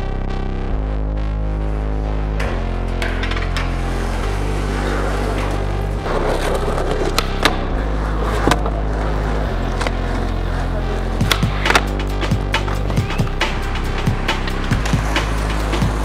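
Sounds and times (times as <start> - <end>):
background music with bass: 0.0 - 16.0
skateboard clacking: 2.4 - 16.0
skateboard wheels rolling on concrete: 2.4 - 16.0.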